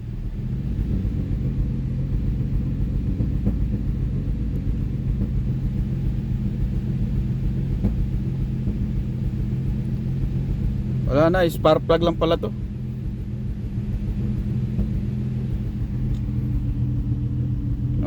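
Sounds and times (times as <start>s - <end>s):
car engine running steadily: 0.0s - 18.0s.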